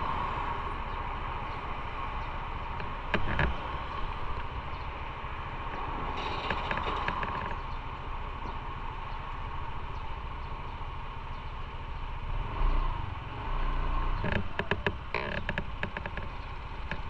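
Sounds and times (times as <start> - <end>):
motorcycle engine rumbling: 0.0 - 17.0
road and wind noise: 0.0 - 17.0.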